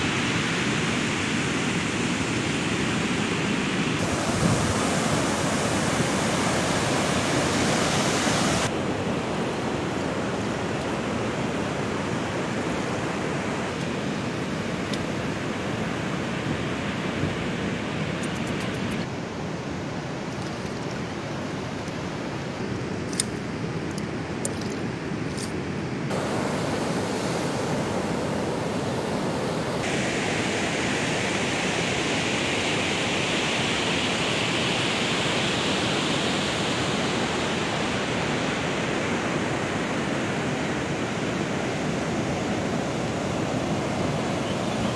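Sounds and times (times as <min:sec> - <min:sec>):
sea surf: 0:00.0 - 0:23.7, 0:25.9 - 0:44.9
wind: 0:00.0 - 0:44.9.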